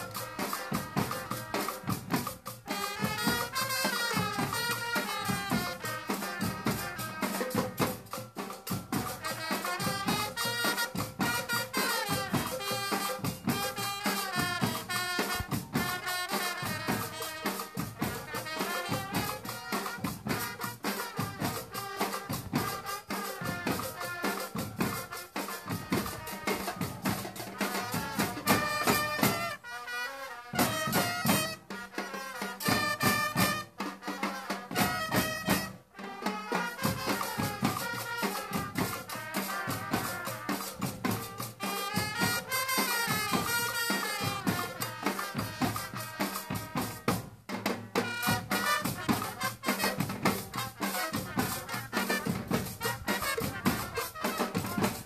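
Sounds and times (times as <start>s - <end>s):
snare drums: 0.0s - 55.0s
trumpet melody: 0.0s - 55.0s.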